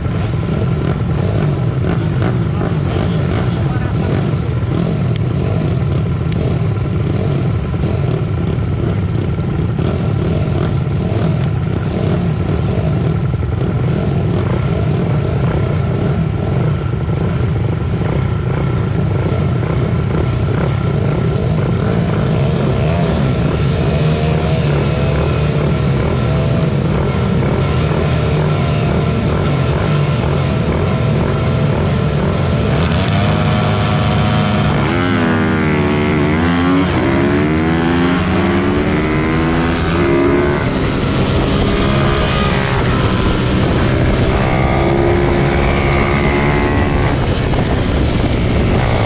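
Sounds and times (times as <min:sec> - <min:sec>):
pit bike engines racing: 0:00.0 - 0:49.0.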